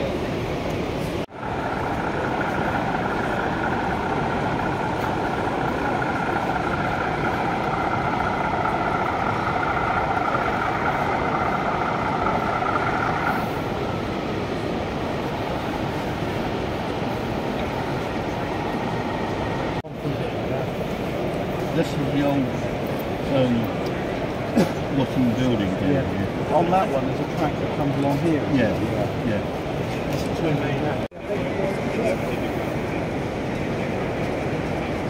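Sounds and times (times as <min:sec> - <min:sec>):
hall background noise: 0:00.0 - 0:35.0.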